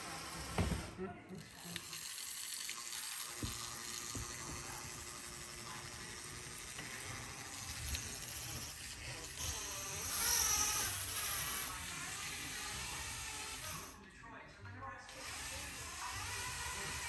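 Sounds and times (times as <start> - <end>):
small electric motor whirring: 0.0 - 14.0, 15.1 - 17.0.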